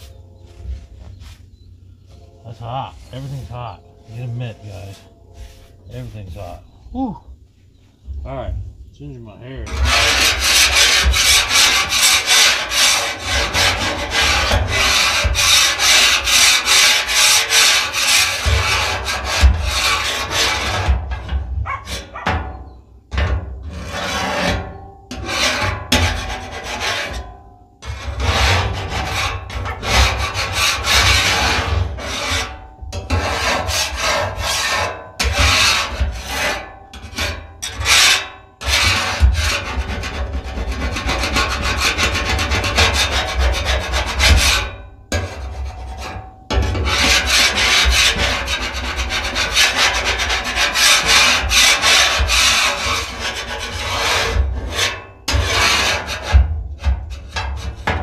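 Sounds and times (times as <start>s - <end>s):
metal scraper scraping griddle: 3.0s - 6.5s, 9.6s - 58.0s.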